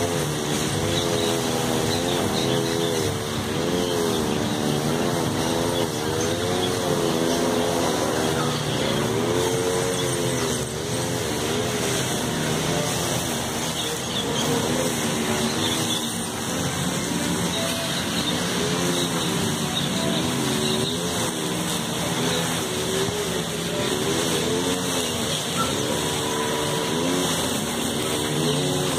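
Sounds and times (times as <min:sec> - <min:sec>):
engine running: 0:00.0 - 0:28.9.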